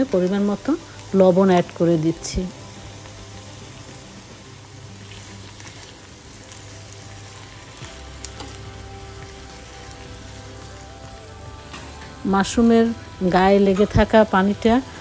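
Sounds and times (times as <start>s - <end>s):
mushrooms sizzling in a frying pan: 0.0s - 15.0s.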